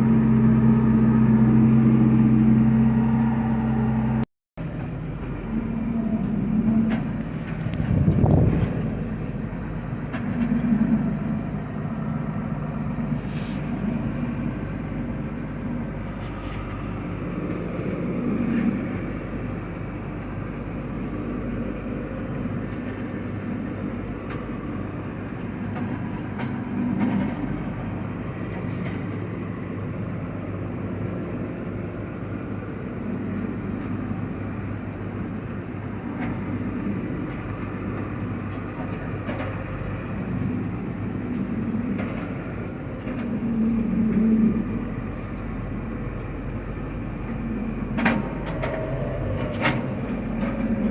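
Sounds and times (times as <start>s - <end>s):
combine harvester rumbling: 0.0s - 50.9s.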